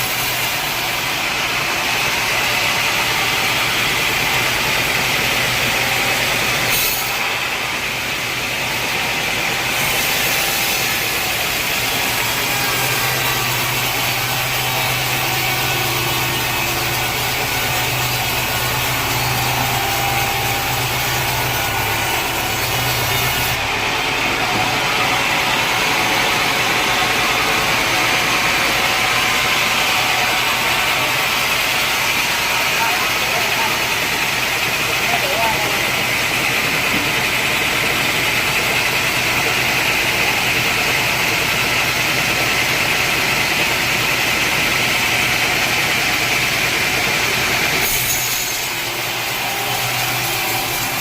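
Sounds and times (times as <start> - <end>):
saw cutting through log: 0.0 - 51.0.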